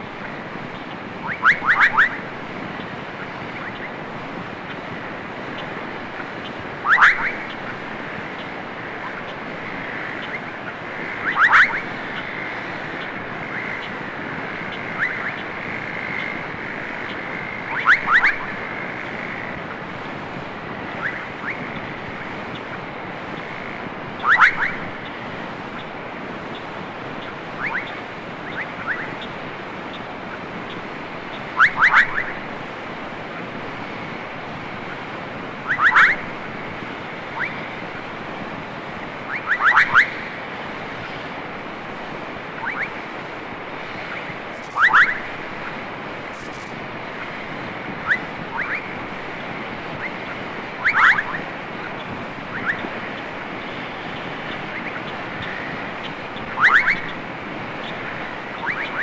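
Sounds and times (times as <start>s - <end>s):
frogs clicking calls: 0.0s - 59.0s
steady hiss: 0.0s - 59.0s.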